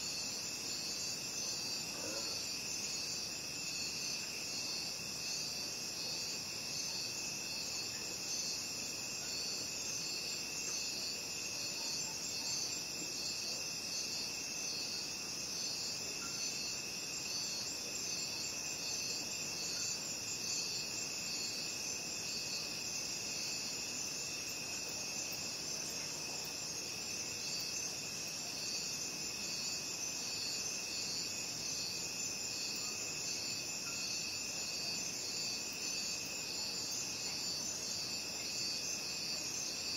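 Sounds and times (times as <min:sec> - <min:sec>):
rapid pulsing cricket chirps: 0:00.0 - 0:39.9.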